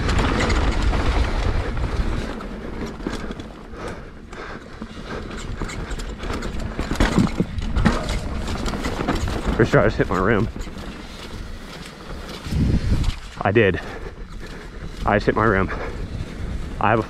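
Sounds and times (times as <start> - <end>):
mountain bike rattling over rocks: 0.0 - 17.0
wind noise: 0.0 - 17.0.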